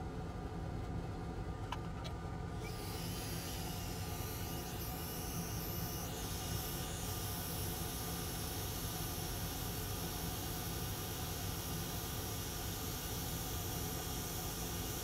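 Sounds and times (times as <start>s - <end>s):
low steady hum: 0.0s - 15.0s
hot air blower hiss: 2.6s - 15.0s.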